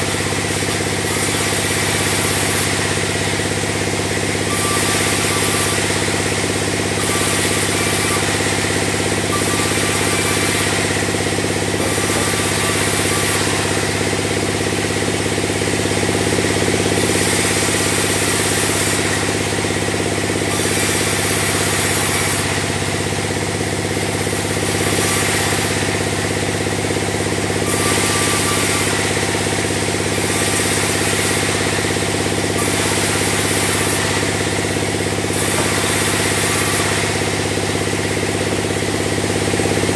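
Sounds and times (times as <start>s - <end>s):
bandsaw sawing timber: 0.0s - 39.9s.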